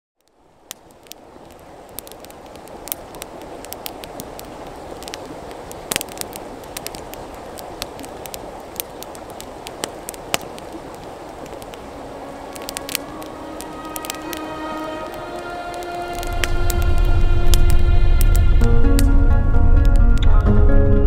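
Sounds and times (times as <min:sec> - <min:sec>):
campfire crackling: 0:00.2 - 0:21.0
fire popping and snapping: 0:00.2 - 0:21.0
steady rushing noise: 0:00.5 - 0:21.0.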